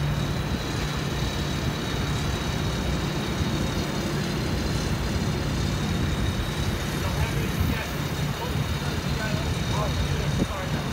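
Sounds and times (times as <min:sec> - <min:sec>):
crane diesel engine rumbling: 0:00.0 - 0:10.9.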